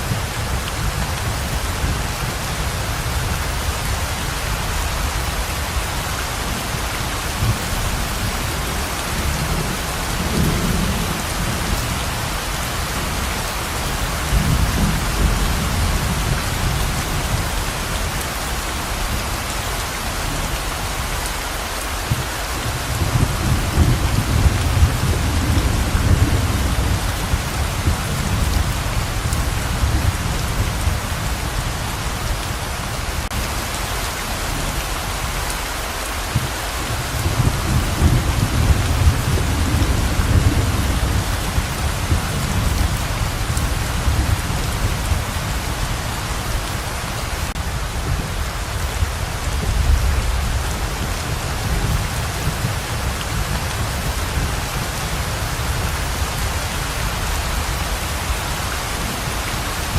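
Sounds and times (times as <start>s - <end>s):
rolling thunder rumbles: 0.0s - 19.2s, 22.0s - 33.7s, 36.3s - 59.9s
heavy rain pouring: 0.0s - 59.9s.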